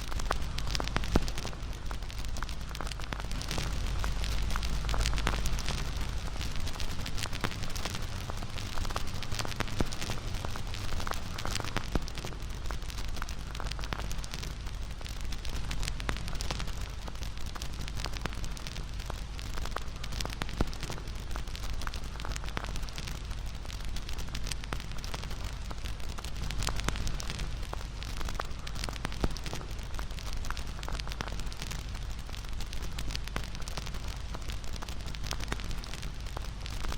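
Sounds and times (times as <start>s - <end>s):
fire popping and snapping: 0.0s - 36.9s
wood fire crackling: 0.0s - 36.9s.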